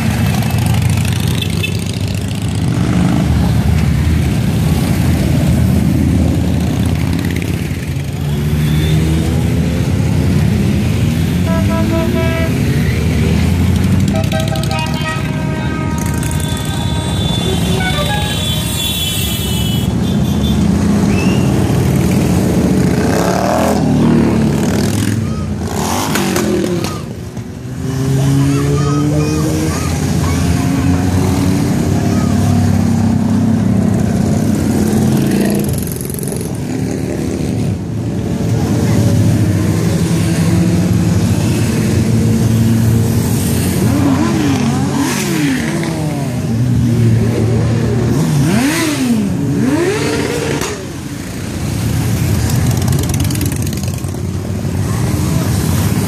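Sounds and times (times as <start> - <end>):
motorcycles riding past: 0.0 - 18.8, 20.1 - 56.0
motorcycle engines revving: 0.0 - 56.0.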